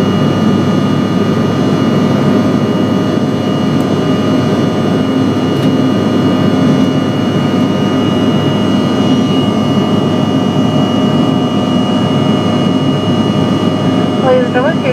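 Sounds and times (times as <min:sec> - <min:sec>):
jet engines running in flight: 0:00.0 - 0:14.9.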